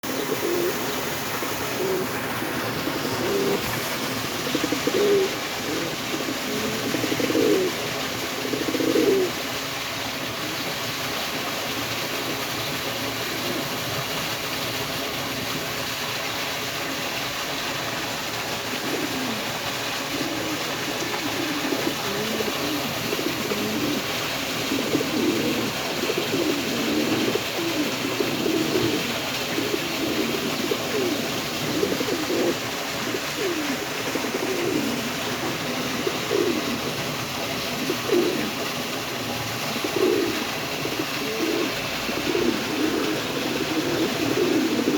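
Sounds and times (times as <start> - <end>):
pigeons cooing: 0.0 - 44.9
steady hiss: 0.0 - 44.9.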